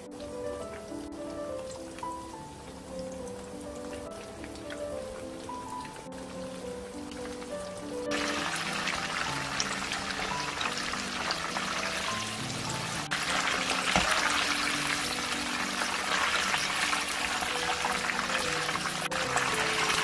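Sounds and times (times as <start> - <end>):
background music: 0.0 - 20.0
deep-frying sizzle: 0.0 - 20.0.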